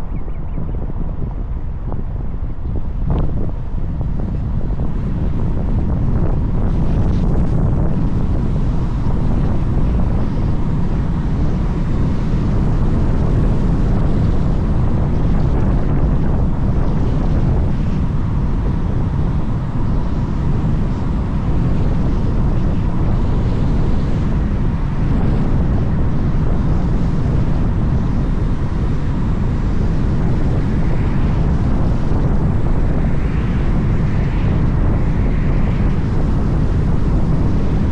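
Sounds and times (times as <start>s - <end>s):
road noise: 0.0s - 37.9s
wind: 0.0s - 37.9s.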